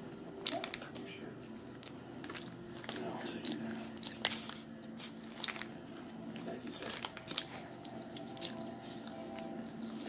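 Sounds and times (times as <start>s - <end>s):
child chewing: 0.0s - 1.0s, 1.6s - 10.0s
crackles and rustles of food: 0.0s - 10.0s
steady low hum: 0.0s - 10.0s.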